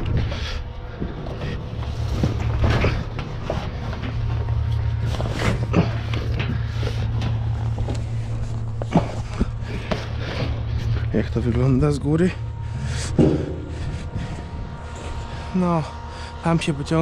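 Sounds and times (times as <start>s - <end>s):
engine humming: 0.0s - 17.0s
tarpaulin rustling and scraping: 0.0s - 17.0s.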